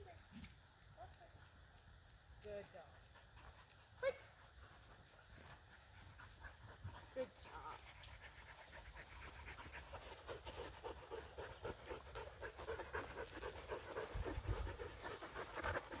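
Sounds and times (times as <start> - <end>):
dog panting fast: 2.8 - 16.0.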